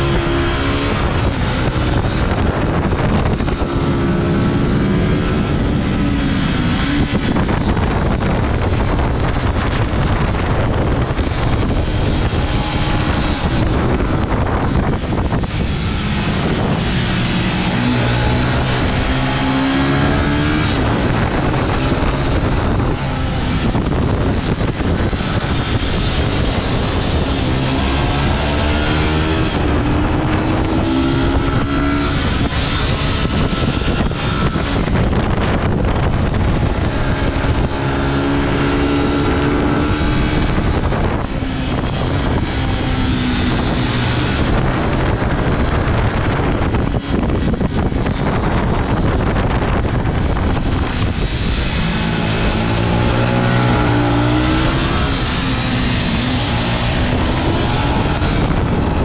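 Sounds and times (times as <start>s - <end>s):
motorcycle engines accelerating: 0.0s - 59.0s
wind rush on microphone: 0.0s - 59.0s.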